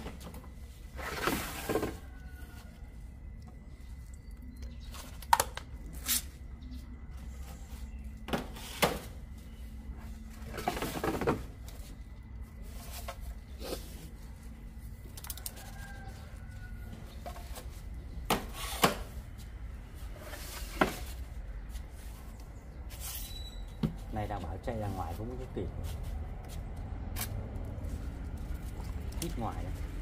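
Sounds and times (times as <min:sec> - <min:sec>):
handling knocks and scrapes: 0:00.0 - 0:02.8, 0:07.3 - 0:14.6, 0:15.5 - 0:29.9.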